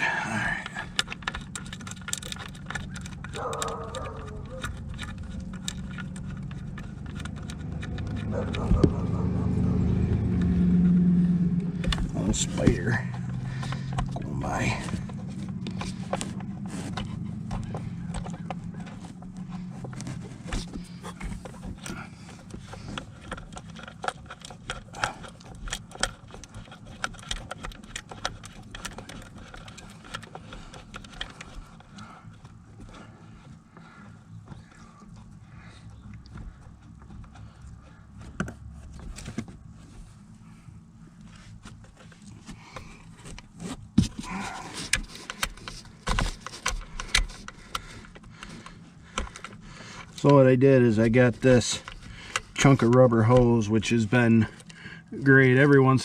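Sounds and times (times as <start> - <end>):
hand tools and metal parts clinking: 0.0 - 56.0.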